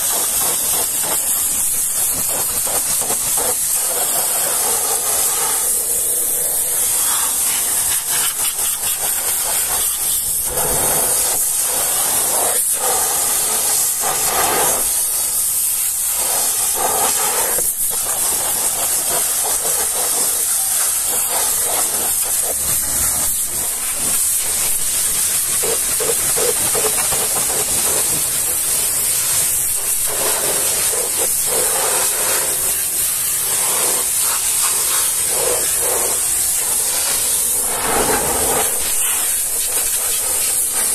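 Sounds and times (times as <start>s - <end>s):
pressure washer spraying wheel: 0.0s - 40.9s.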